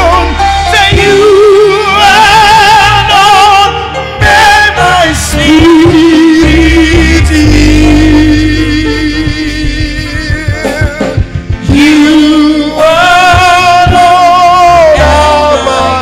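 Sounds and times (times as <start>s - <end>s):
band playing: 0.0s - 16.0s
gospel singing: 0.0s - 16.0s.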